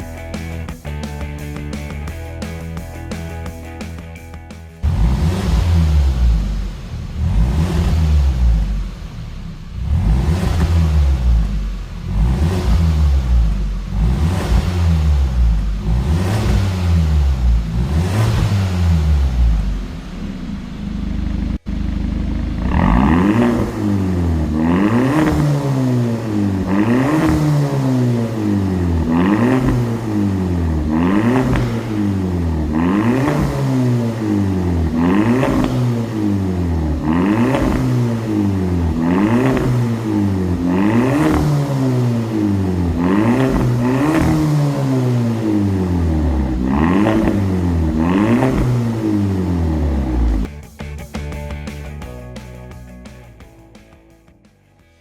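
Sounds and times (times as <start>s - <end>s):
car engine revving: 4.8s - 50.5s.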